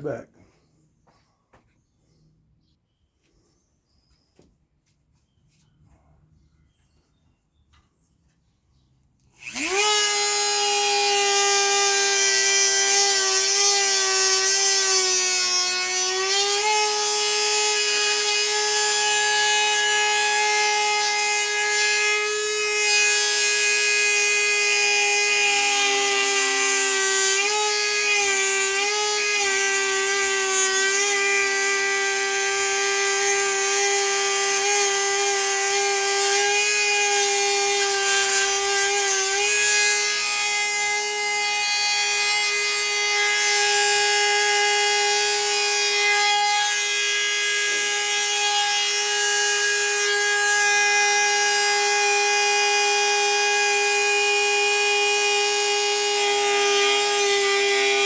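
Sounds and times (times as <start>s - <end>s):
power tool whining: 9.2s - 58.0s.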